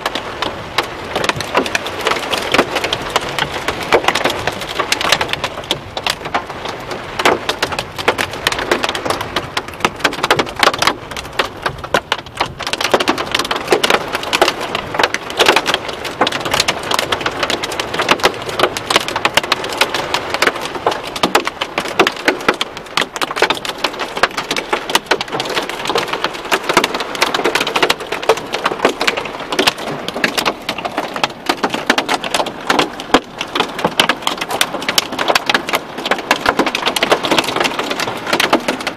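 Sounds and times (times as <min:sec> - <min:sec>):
heavy rain and hail falling: 0:00.0 - 0:38.9.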